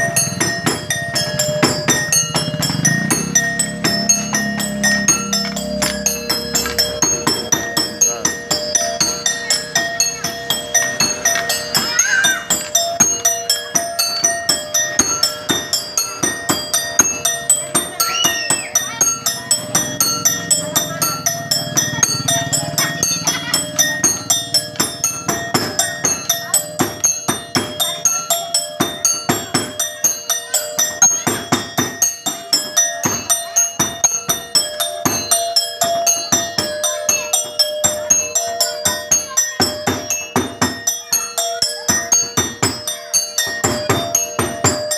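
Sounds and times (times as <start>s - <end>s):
ringing metallic tones: 0.0s - 44.9s
struck percussion beat: 0.0s - 44.9s.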